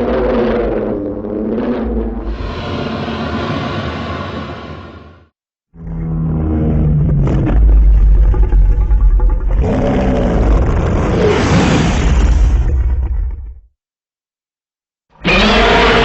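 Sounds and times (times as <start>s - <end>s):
deep monster roar: 0.0s - 5.2s, 5.8s - 13.5s, 15.2s - 16.0s.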